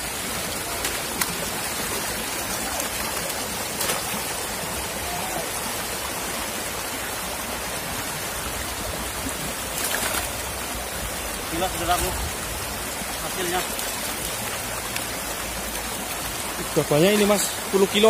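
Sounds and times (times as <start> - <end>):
river water rushing over stones: 0.0 - 18.0.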